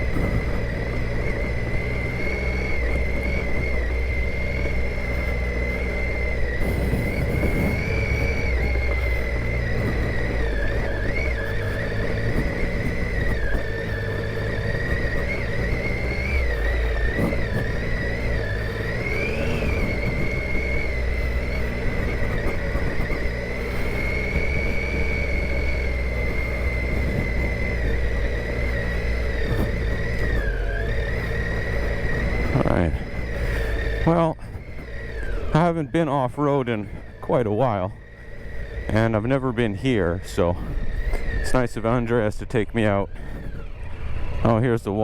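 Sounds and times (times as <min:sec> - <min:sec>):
high wavering whine: 0:00.0 - 0:45.0
motorcycle engine running: 0:00.0 - 0:45.0.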